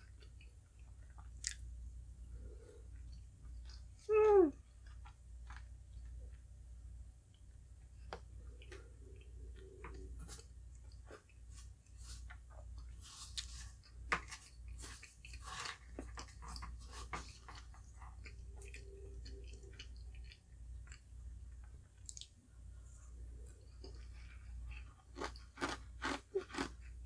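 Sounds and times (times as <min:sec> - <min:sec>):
chewing with wet mouth sounds: 0:00.0 - 0:01.7, 0:02.4 - 0:06.5, 0:07.3 - 0:22.4, 0:23.4 - 0:27.0
low steady hum: 0:00.0 - 0:27.0.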